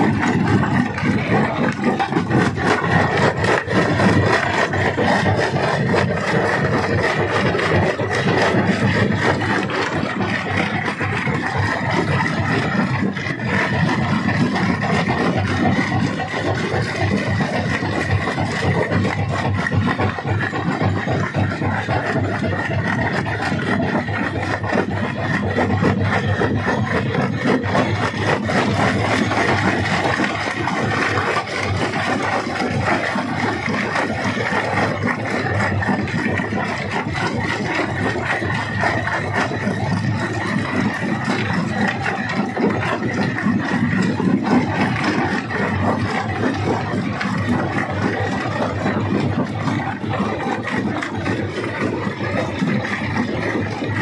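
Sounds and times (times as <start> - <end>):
rock rattling and cracking: 0.0 - 54.0
stone crusher drone: 0.0 - 54.0.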